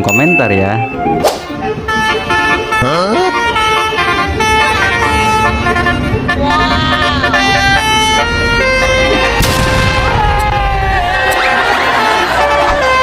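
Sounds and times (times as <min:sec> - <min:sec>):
multi-tone air horn melody: 0:00.6 - 0:13.0.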